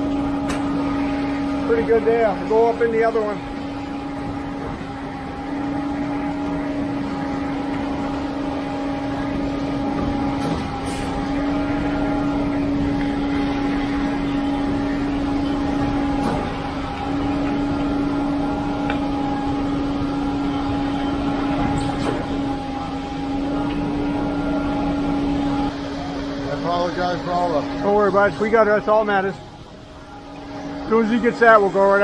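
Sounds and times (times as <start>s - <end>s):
concrete pump truck droning: 0.0s - 32.0s.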